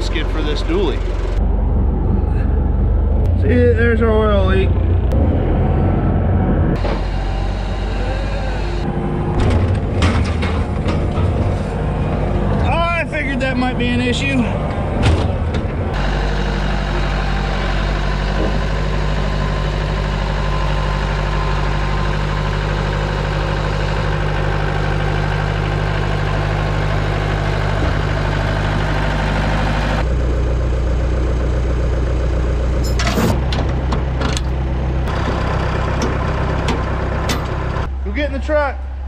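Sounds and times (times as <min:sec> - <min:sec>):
skid steer engine running: 0:00.0 - 0:39.0.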